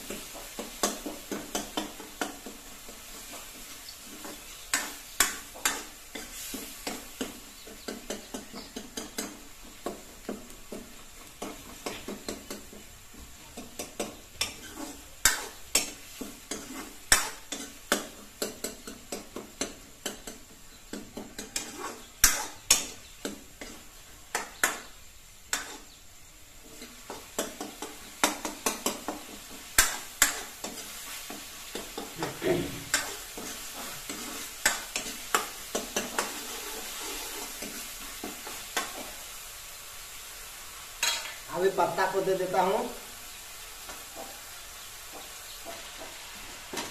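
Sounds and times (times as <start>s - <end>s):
frying sizzle: 0.0s - 46.9s.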